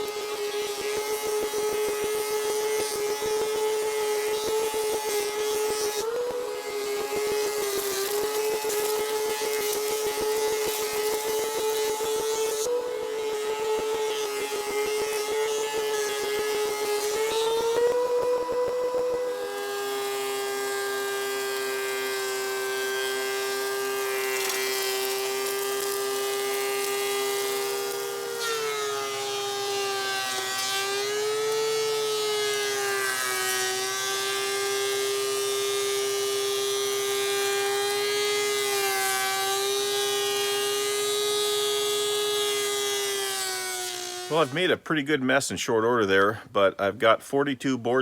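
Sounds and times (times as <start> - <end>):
thickness planer motor whine: 0.0 - 44.8.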